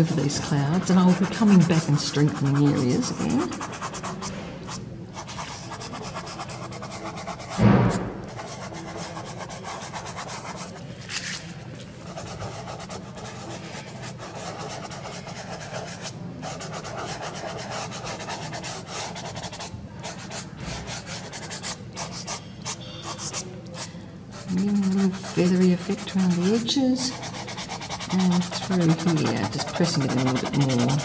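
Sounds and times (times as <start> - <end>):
fingertips rubbing pastel on paper: 0.0 - 4.3, 5.2 - 7.6, 12.1 - 22.4, 23.1 - 31.0.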